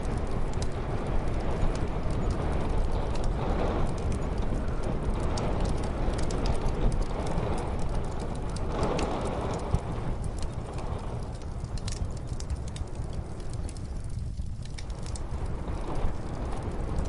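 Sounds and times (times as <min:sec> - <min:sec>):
muffled snowstorm wind: 0:00.0 - 0:17.0
wood fire crackling: 0:00.0 - 0:17.0.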